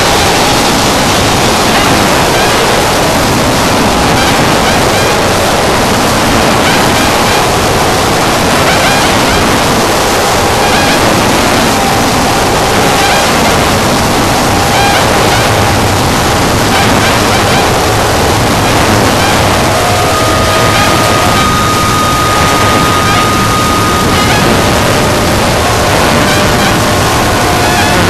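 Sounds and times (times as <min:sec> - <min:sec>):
harsh noise music: 0:00.0 - 0:28.0.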